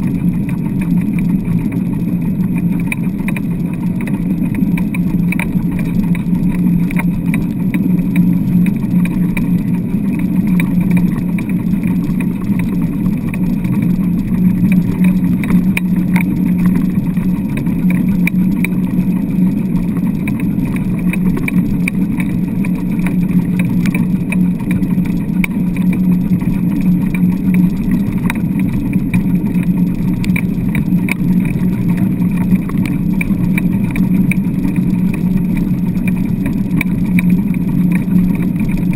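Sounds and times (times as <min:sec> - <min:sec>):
light rattles and clicks: 0:00.0 - 0:38.9.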